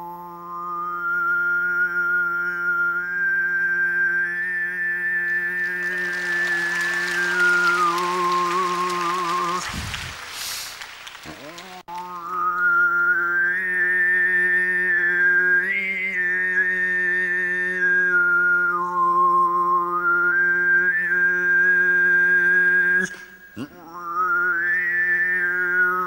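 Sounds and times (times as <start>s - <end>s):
man overtone singing: 0.0s - 9.7s, 11.3s - 26.0s.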